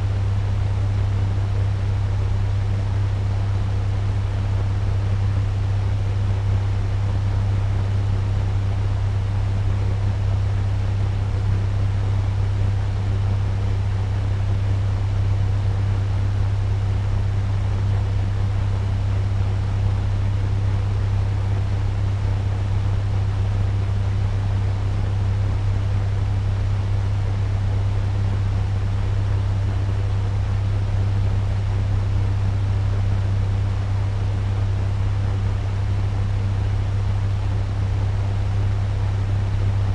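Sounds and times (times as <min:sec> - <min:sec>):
fan motor low hum: 0:00.0 - 0:39.9.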